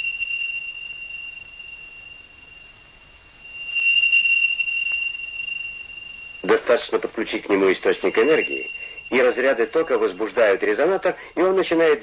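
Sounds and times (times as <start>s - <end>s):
high-pitched electronic tone: 0.0s - 11.0s.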